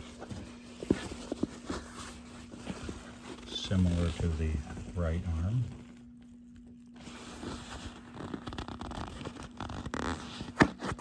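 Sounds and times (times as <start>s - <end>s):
faint steady hum: 0.0s - 11.0s
leather rustling and crackling: 0.0s - 11.0s.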